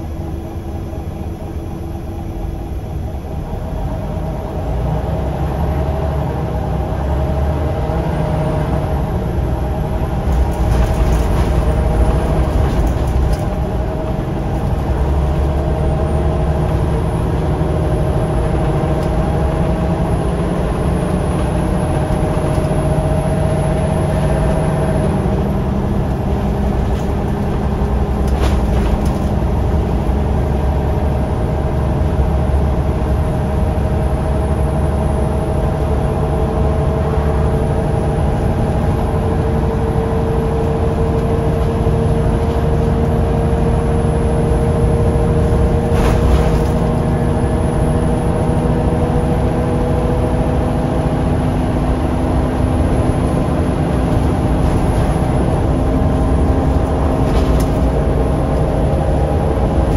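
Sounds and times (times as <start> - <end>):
bus diesel engine droning: 0.0 - 59.9
road noise: 0.0 - 59.9.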